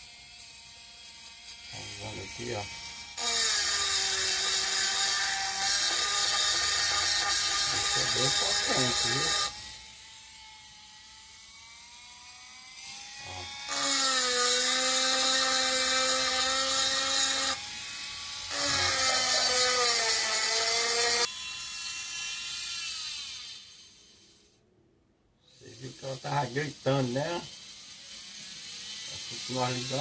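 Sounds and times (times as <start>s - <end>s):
electric nail file motor whine: 0.0s - 24.6s, 25.4s - 30.0s.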